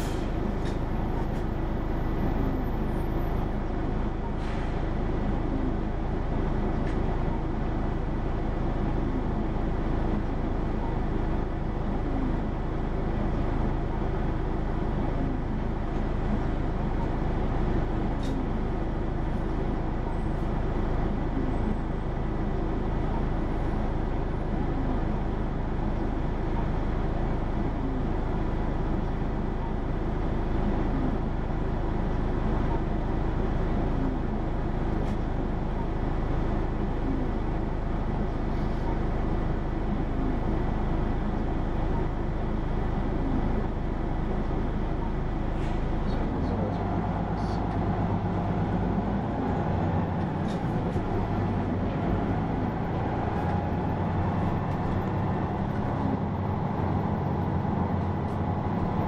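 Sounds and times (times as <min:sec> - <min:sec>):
bus diesel engine from inside: 0:00.0 - 0:59.0.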